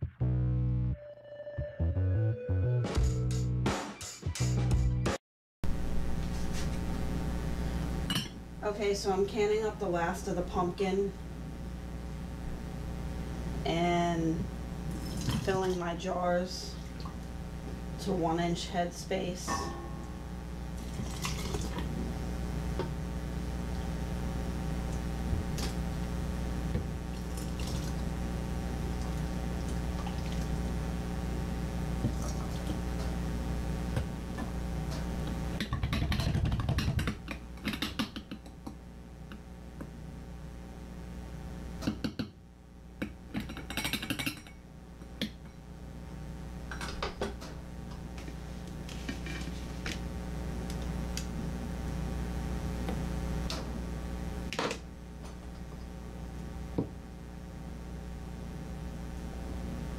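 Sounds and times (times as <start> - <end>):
steady background hum: 5.7 - 59.9.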